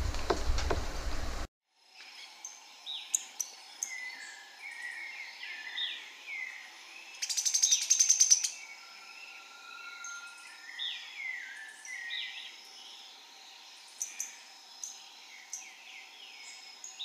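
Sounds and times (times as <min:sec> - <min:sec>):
bird song whistled notes: 0:01.9 - 0:17.0.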